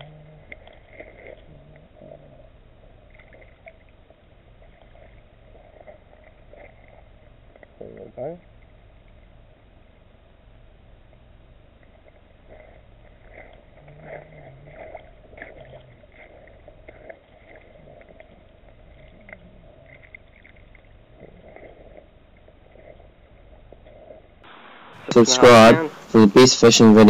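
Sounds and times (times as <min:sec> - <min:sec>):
low steady rumble: 0:00.0 - 0:27.0
shallow river water splashing: 0:00.0 - 0:27.0.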